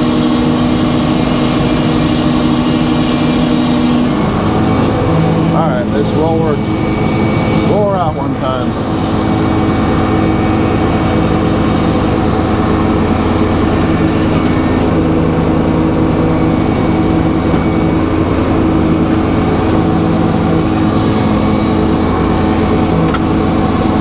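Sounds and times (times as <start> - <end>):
sawmill running: 0.0 - 24.0.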